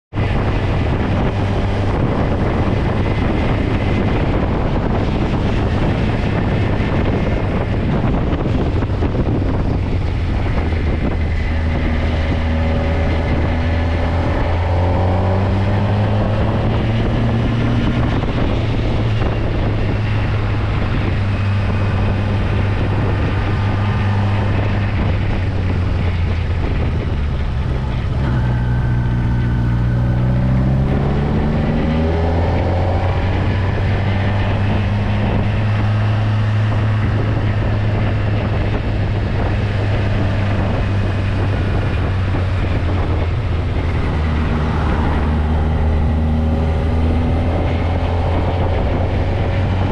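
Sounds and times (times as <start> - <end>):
motorcycle engine running: 0.1 - 49.9
wind noise on microphone: 0.1 - 49.9.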